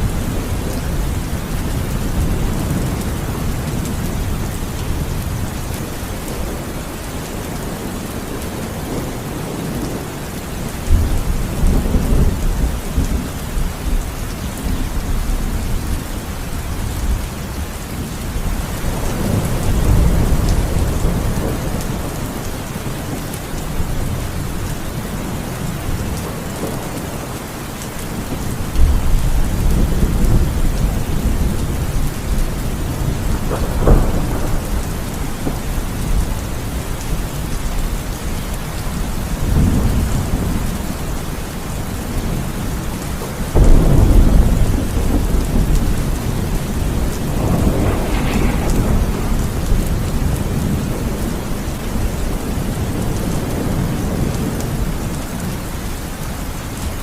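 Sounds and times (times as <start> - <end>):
thunder rumbling: 0.0 - 55.6
heavy rain falling: 0.0 - 57.0.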